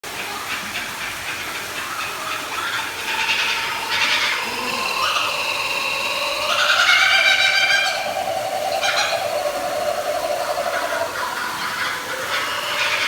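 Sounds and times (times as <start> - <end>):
birds giving laughing calls: 0.8 - 13.0.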